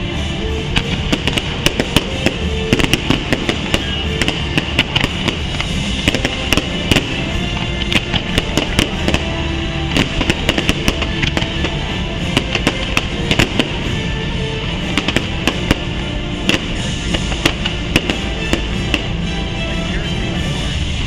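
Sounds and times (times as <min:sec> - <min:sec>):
fireworks bangs and crackles: 0:00.0 - 0:21.0
loud show music: 0:00.0 - 0:21.0.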